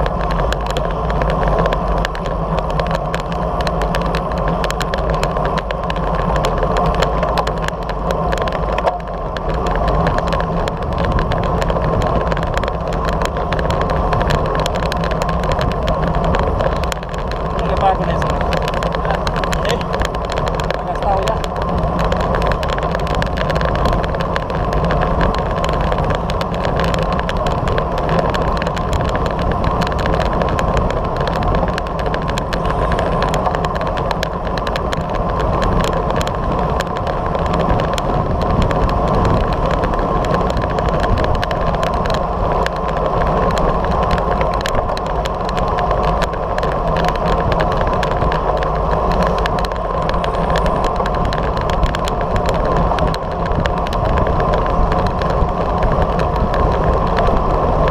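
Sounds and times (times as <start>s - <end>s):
road rumble: 0.0s - 57.9s
wind rush: 0.0s - 57.9s.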